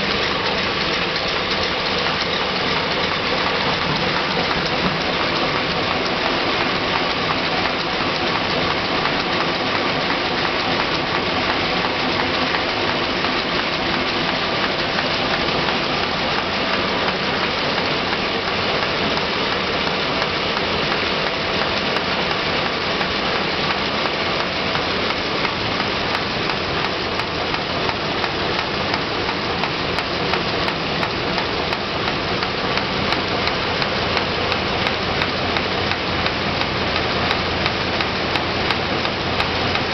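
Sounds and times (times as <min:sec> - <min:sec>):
machine running steadily: 0:00.0 - 0:39.9.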